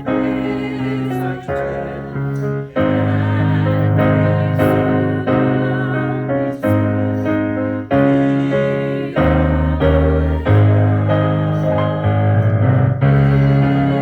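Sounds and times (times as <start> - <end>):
electric keyboard playing hymn chords: 0.0 - 14.0.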